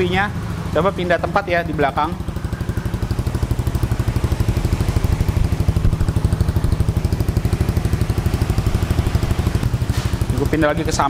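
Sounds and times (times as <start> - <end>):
motorcycle idling: 0.0 - 11.0.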